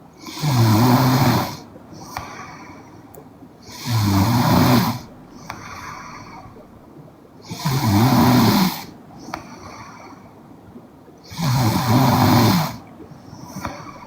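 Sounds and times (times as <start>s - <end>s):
quiet breathing: 0.0s - 14.0s.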